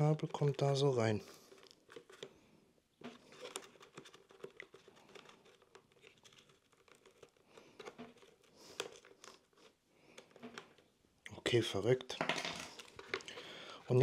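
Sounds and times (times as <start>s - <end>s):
faint rustling of hands: 0.4s - 11.0s, 12.6s - 14.0s.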